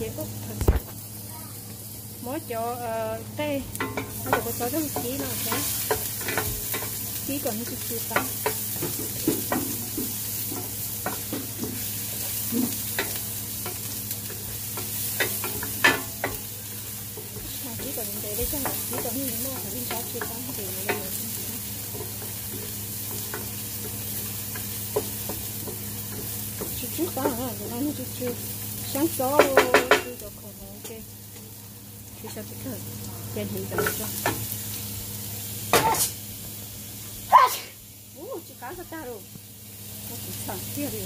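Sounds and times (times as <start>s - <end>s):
garlic sizzling in hot oil: 0.0s - 41.0s.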